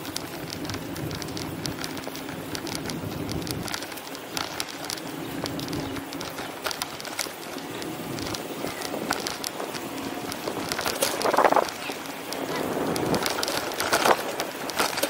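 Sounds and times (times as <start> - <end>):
city street background noise: 0.0 - 15.0
sharp clicks: 0.0 - 15.0.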